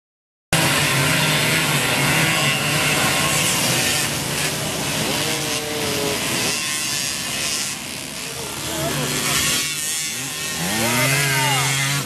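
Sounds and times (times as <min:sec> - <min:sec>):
moped engines buzzing: 0:00.6 - 0:12.0.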